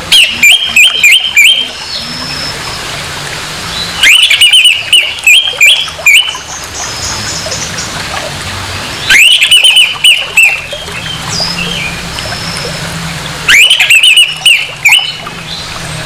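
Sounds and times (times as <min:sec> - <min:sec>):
thrush singing whistled notes: 0:00.0 - 0:02.9, 0:03.7 - 0:07.9, 0:09.0 - 0:12.8, 0:13.5 - 0:15.8.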